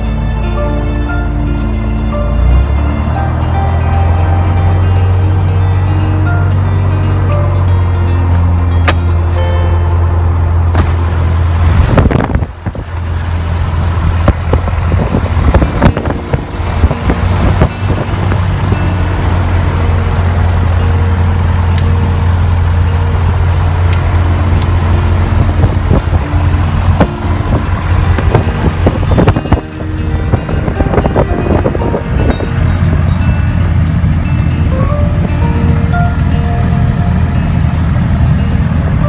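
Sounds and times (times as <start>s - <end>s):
propeller aircraft engine drone: 0.0s - 39.0s.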